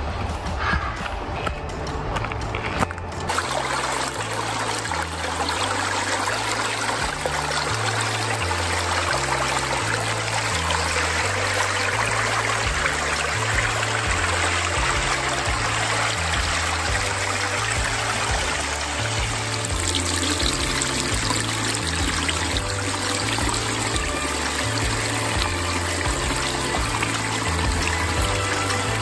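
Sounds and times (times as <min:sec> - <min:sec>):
soft music with bass line: 0:00.0 - 0:29.0
creek trickling over rocks: 0:02.8 - 0:29.0.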